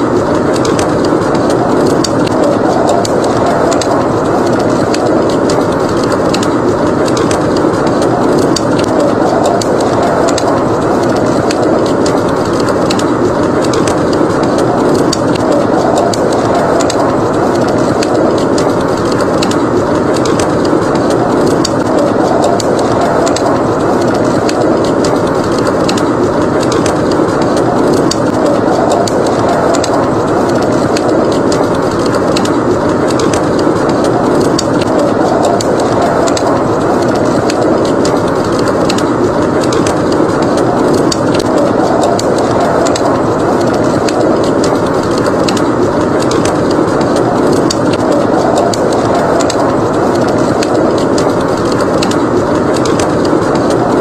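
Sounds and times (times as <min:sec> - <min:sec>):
blizzard wind rushing: 0:00.0 - 0:54.0
wood fire crackling: 0:00.0 - 0:54.0.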